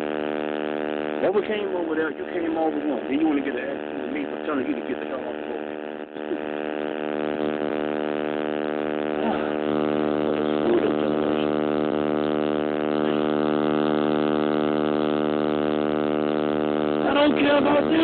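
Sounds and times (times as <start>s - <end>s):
loud electrical buzz: 0.0s - 18.0s.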